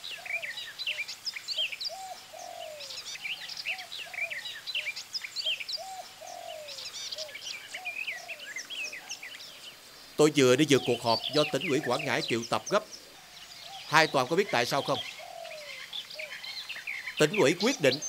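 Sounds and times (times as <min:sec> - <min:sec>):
birds chirping and whistling: 0:00.0 - 0:18.0
lower arched bird call: 0:00.0 - 0:18.0.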